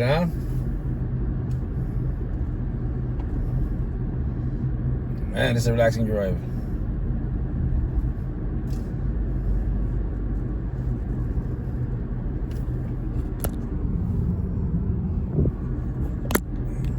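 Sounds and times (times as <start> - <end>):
car engine and road rumble: 0.0 - 16.9.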